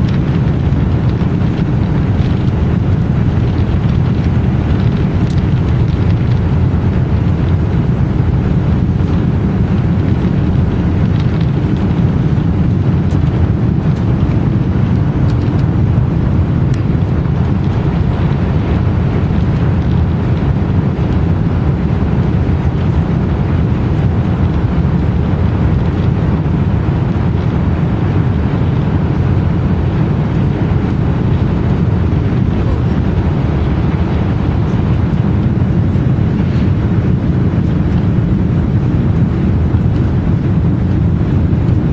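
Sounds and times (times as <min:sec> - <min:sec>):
jet airliner engines rumbling: 0:00.0 - 0:41.9.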